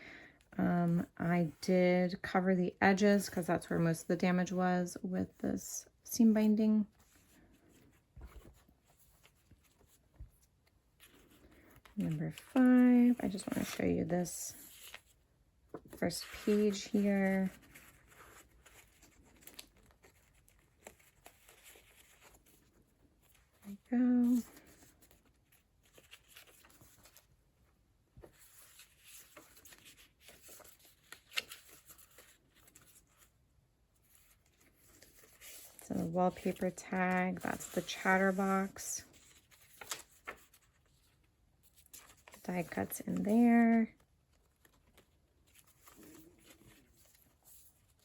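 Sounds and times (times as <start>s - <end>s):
paper pages rustling: 6.9s - 27.3s, 28.2s - 33.4s, 34.0s - 48.0s.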